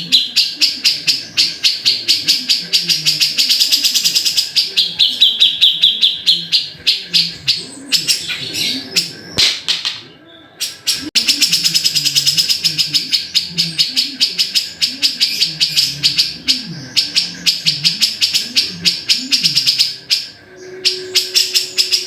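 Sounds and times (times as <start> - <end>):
bird chattering call: 0.0 - 9.7, 10.6 - 22.0.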